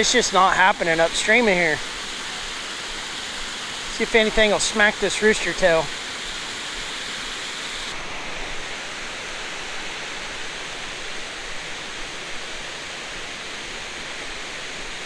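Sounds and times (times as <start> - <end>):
water rushing over weir: 0.0 - 15.0.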